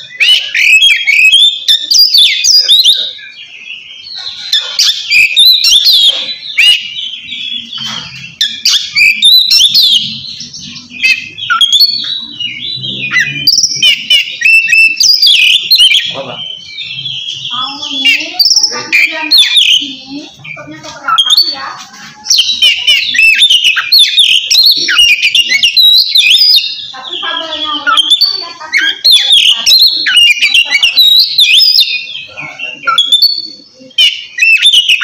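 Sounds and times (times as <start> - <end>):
songbird whistling song: 0.0 - 35.0.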